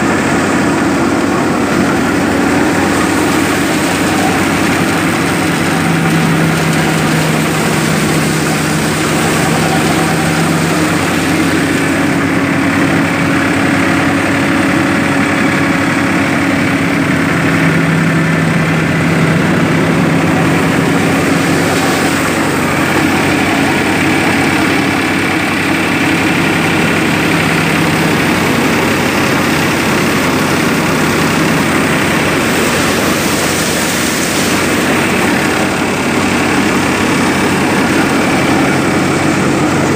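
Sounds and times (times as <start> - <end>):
thresher machine noise: 0.0 - 39.9
tractor diesel engine running: 0.0 - 39.9.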